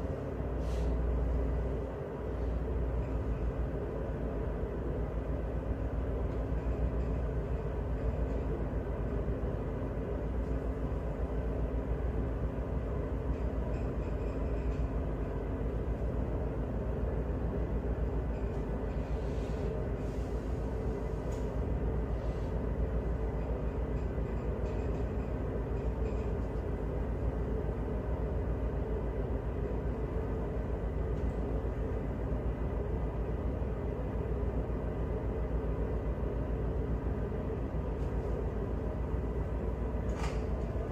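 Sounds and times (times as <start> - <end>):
diesel engine low rumble: 0.0 - 40.9
faint steady hum: 0.0 - 40.9.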